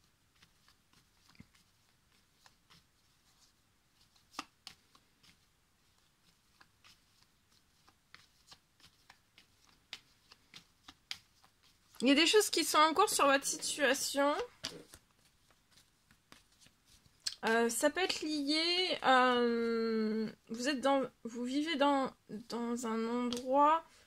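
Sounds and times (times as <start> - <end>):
cards being shuffled: 0.3 - 19.6, 23.2 - 23.6.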